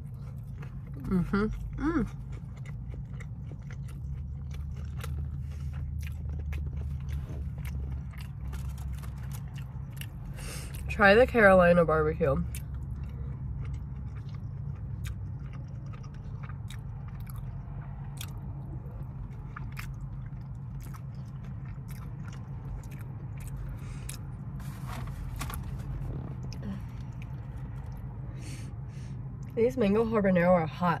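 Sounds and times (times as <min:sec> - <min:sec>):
chewing with wet mouth smacks: 0:00.0 - 0:10.9, 0:12.4 - 0:24.5, 0:26.1 - 0:28.2
steady low hum: 0:00.0 - 0:31.0.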